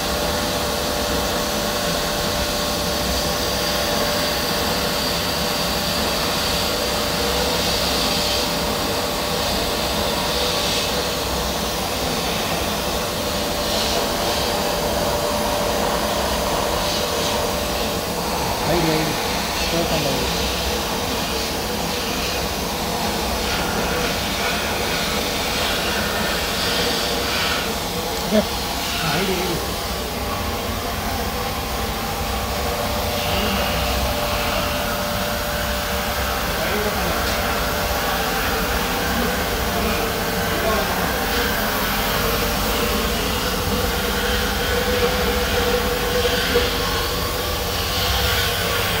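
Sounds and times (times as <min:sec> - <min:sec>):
dust-collector blower humming: 0:00.0 - 0:49.0.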